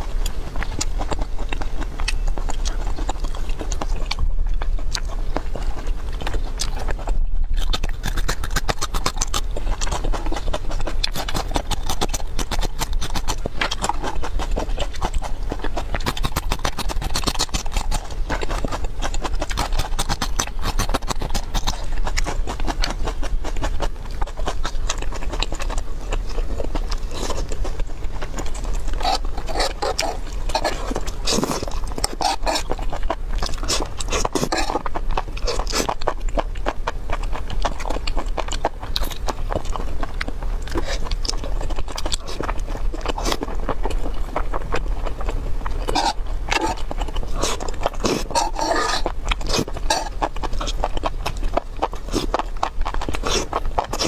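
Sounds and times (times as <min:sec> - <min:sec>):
crunching and chewing: 0:00.0 - 0:54.0
steady low hum: 0:00.0 - 0:54.0.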